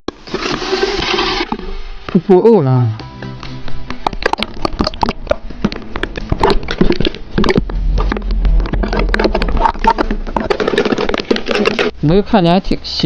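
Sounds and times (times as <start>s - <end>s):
low hum: 0.6s - 12.1s.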